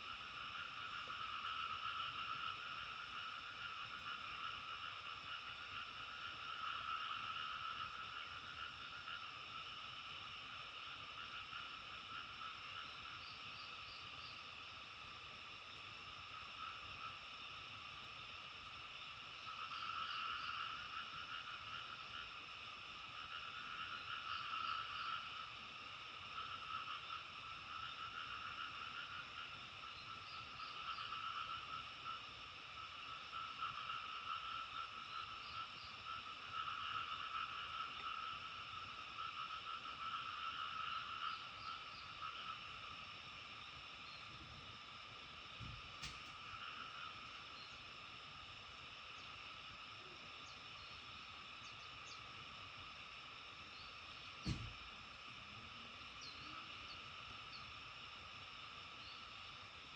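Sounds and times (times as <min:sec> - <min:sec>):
chorus of frogs calling: 0:00.0 - 0:59.9.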